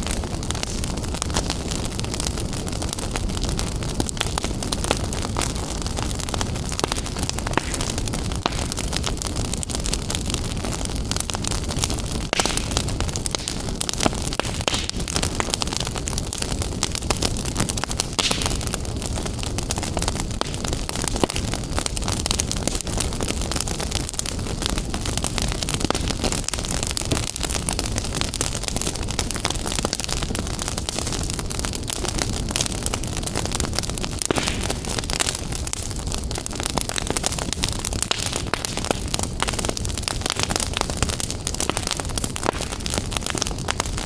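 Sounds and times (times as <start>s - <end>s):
fire crackling in a fireplace: 0.0s - 44.0s.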